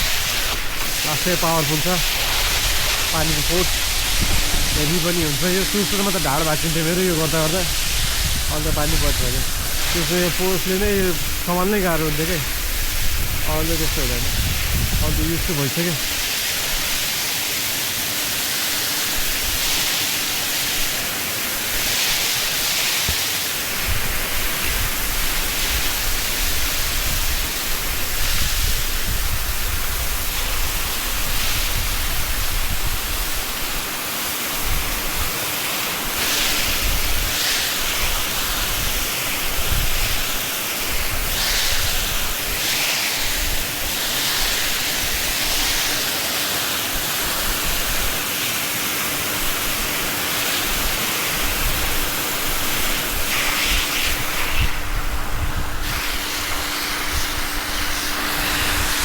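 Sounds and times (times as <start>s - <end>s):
hose water jet spraying: 0.0s - 59.0s.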